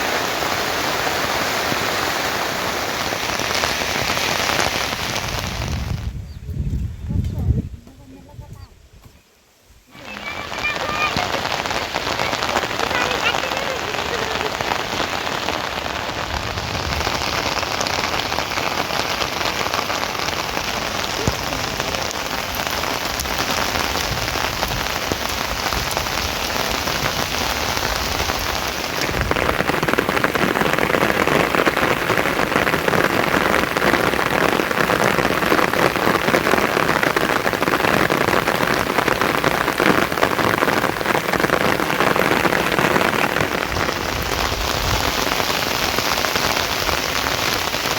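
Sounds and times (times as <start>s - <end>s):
steady rain falling: 0.0s - 6.8s, 7.9s - 47.9s.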